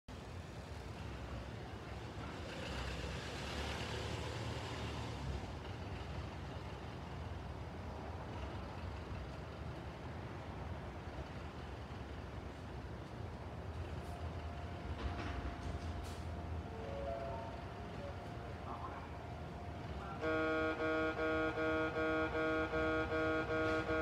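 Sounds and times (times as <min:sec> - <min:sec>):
rumble of distant vehicles: 0:00.1 - 0:24.0.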